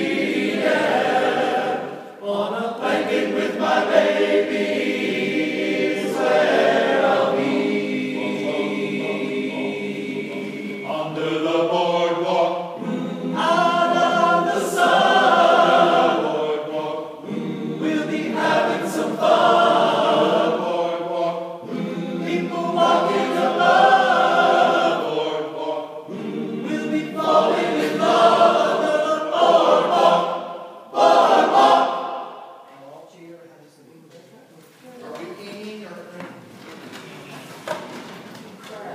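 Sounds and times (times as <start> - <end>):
men's chorus singing: 0.0 - 32.6.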